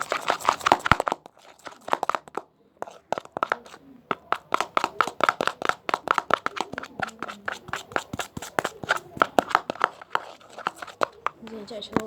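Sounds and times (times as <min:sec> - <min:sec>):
slime stirred sticky clicks: 0:00.0 - 0:12.0.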